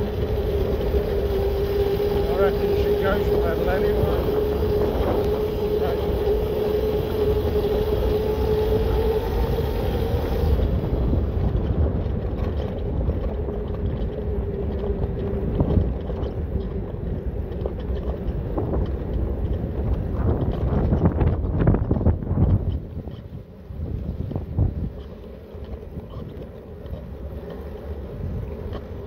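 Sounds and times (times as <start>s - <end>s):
electric bike motor whine: 0.0s - 29.0s
wind buffeting microphone: 0.0s - 29.0s.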